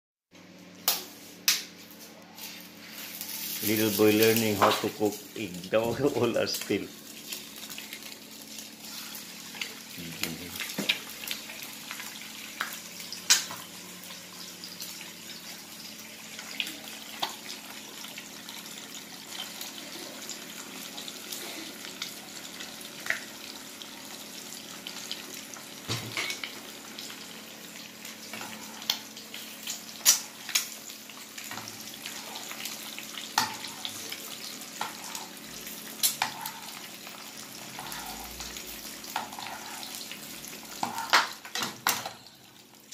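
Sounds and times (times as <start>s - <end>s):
egg sizzling in a frying pan: 0.4s - 42.9s.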